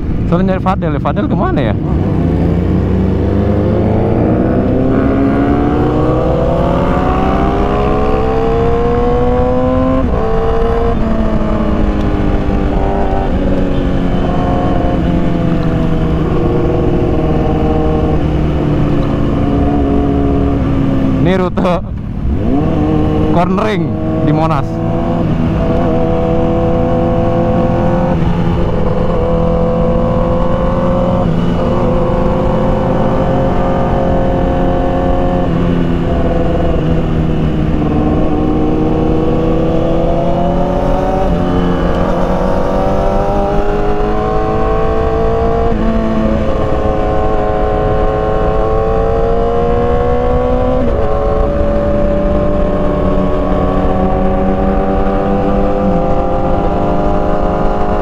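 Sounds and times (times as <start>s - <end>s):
wind and road noise: 0.0s - 58.0s
motorcycle engine shifting gears: 1.3s - 58.0s.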